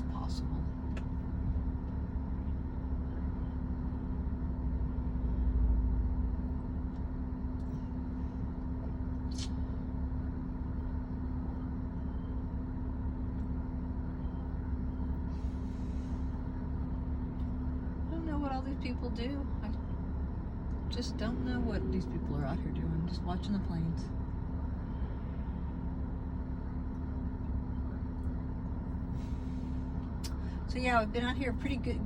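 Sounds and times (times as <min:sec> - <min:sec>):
vehicle rumble: 0:00.0 - 0:32.0.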